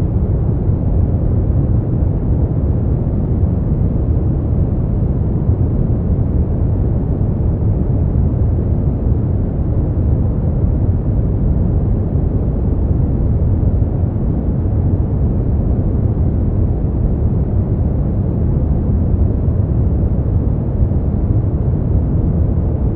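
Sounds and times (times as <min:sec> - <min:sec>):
deep muffled white noise: 0:00.0 - 0:22.9.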